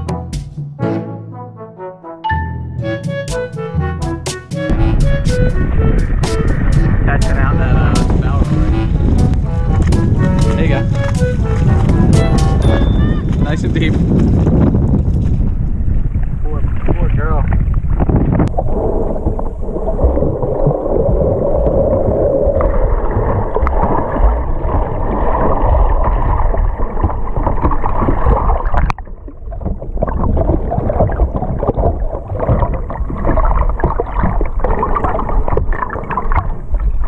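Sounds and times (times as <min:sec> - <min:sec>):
muffled underwater water rush: 0:04.8 - 0:37.0.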